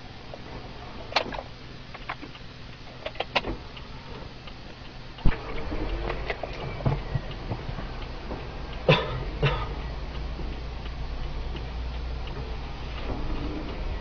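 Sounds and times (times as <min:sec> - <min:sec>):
raindrops ticking on car: 0:00.1 - 0:14.0.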